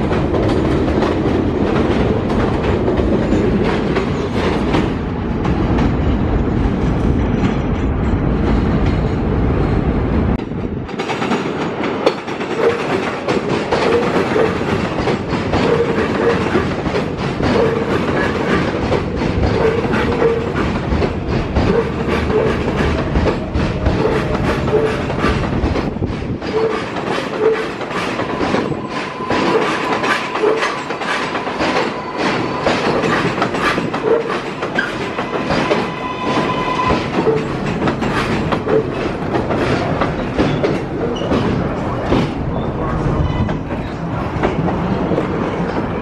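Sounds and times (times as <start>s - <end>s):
subway train wheels clacking: 0.0s - 46.0s.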